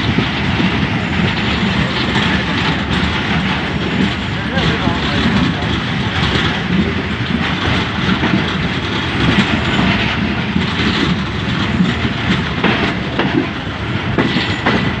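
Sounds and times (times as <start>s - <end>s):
clickety-clack of train bogies: 0.0s - 15.0s
train wheels rumbling on rail: 0.0s - 15.0s.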